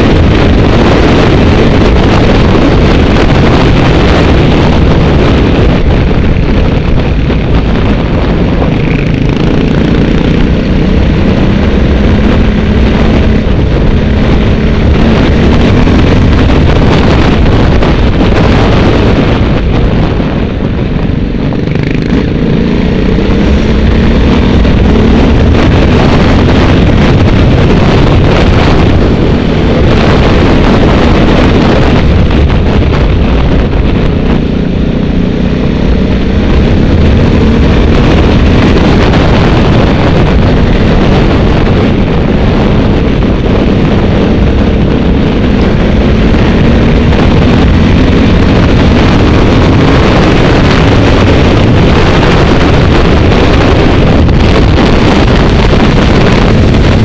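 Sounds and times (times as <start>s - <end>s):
road and wind noise: 0.0s - 57.0s
vehicle engine: 0.0s - 57.0s.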